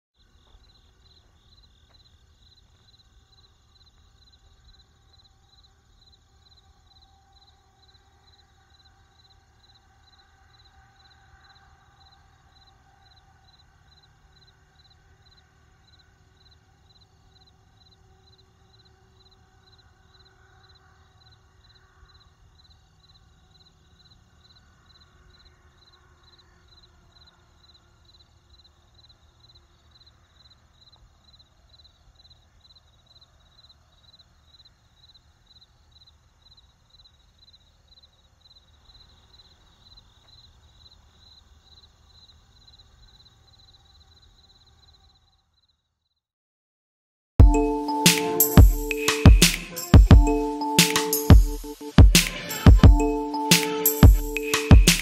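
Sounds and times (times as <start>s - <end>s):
crickets chirping: 0.2s - 46.2s, 47.6s - 55.0s.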